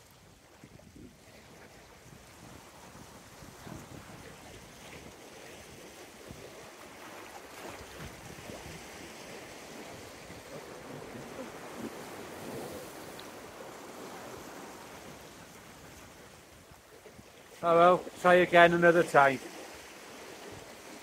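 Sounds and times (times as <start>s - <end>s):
waves breaking against rocks: 0.2s - 21.0s.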